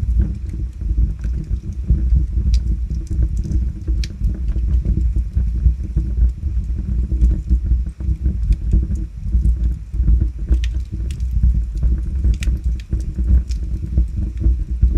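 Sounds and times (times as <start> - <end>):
low rumble of flames: 0.0 - 14.9
wood fire crackling and popping: 0.0 - 14.9.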